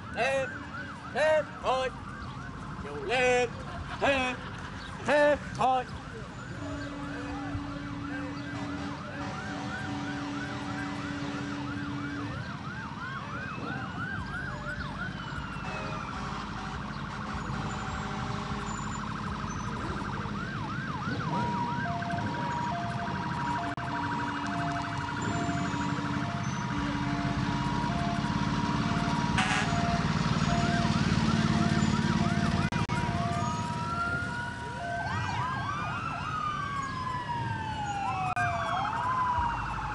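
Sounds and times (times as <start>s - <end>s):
rumble of vehicle engines: 0.0s - 39.9s
vehicle sirens: 0.0s - 39.9s.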